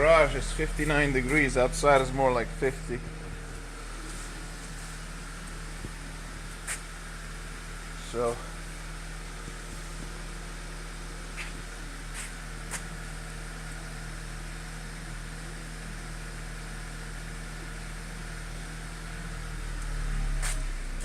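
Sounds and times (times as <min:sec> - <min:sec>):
air injection pump running: 0:00.0 - 0:19.0, 0:19.6 - 0:21.0
car engine idling: 0:00.0 - 0:21.0.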